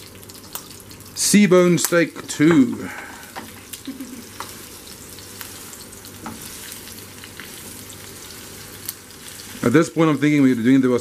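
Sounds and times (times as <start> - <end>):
oil crackling and popping: 0.0 - 10.0
fish searing in a frying pan: 0.0 - 11.0.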